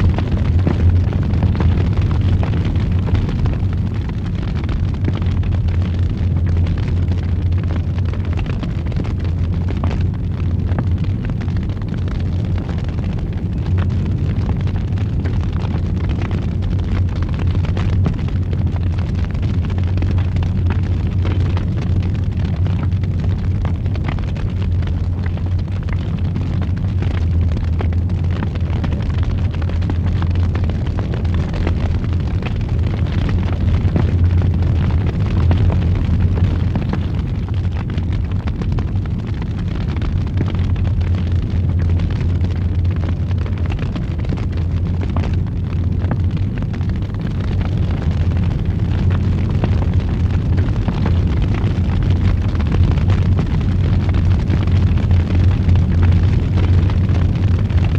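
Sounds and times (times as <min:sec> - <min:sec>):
fire crackles and pops: 0:00.0 - 0:57.9
fireplace fire roaring: 0:00.0 - 0:57.9.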